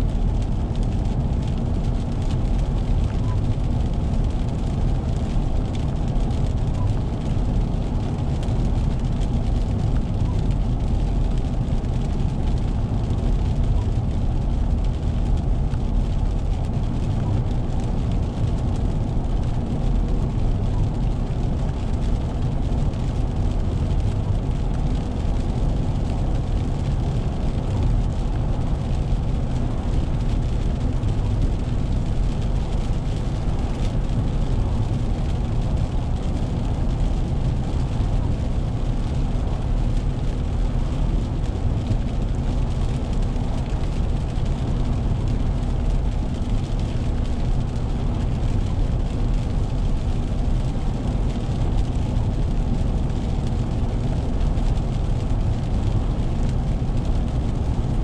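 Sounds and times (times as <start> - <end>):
tyre noise on wet road: 0.0 - 58.0.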